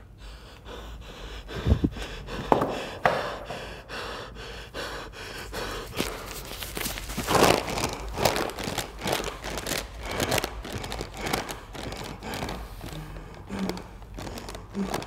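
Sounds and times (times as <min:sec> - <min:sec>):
man breathing heavily: 0:00.0 - 0:15.0.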